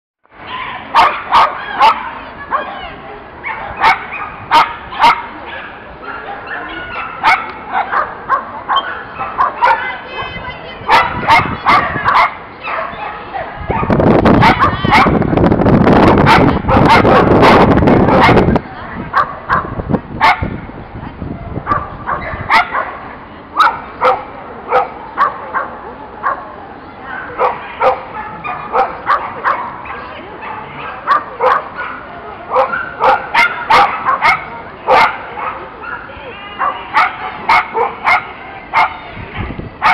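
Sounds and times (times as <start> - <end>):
dog barking: 0.5 - 2.8, 3.4 - 9.9, 10.9 - 15.2, 16.2 - 18.5, 19.1 - 20.5, 21.6 - 23.0, 23.6 - 26.5, 27.1 - 39.9.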